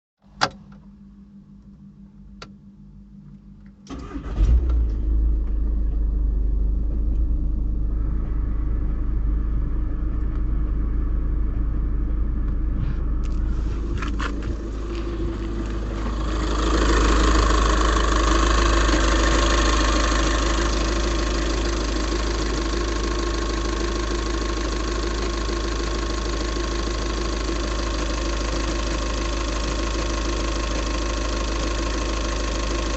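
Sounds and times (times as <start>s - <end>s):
engine starting and idling: 3.8s - 32.9s.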